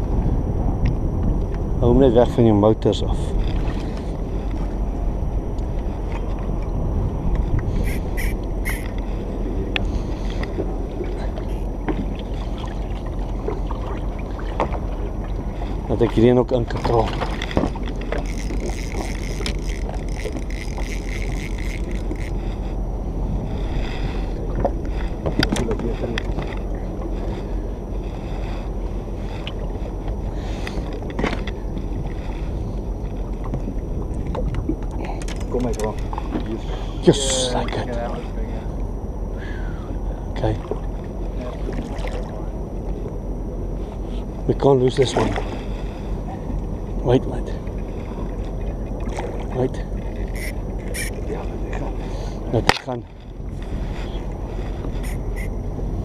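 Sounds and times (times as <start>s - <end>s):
boat engine rumble: 0.0s - 56.0s.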